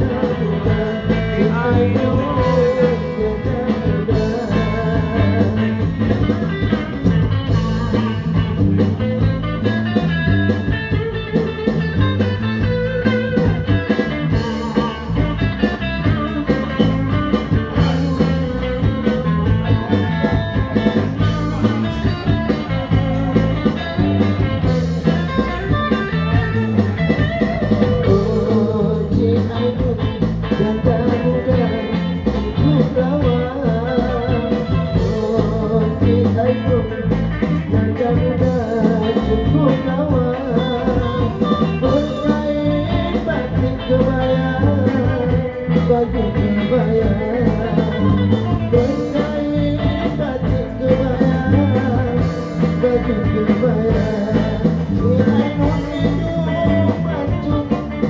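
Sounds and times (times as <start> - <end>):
live band playing pop song: 0.0 - 58.0.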